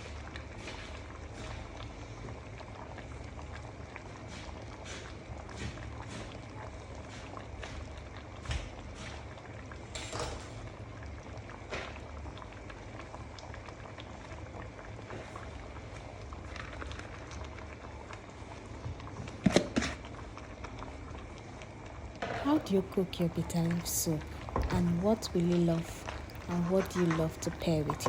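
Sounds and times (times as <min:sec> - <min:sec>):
soup bubbling at the boil: 0:00.0 - 0:28.0.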